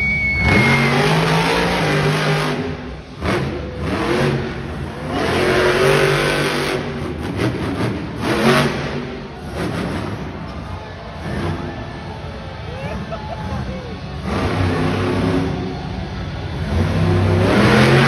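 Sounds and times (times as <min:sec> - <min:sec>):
truck engine revving hard: 0:00.4 - 0:10.5, 0:11.2 - 0:12.2, 0:14.0 - 0:18.0.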